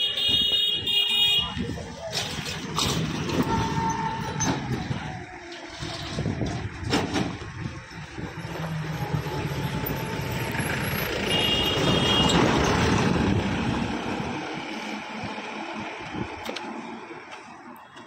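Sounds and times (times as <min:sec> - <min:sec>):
heavy truck driving past: 0:02.4 - 0:17.7.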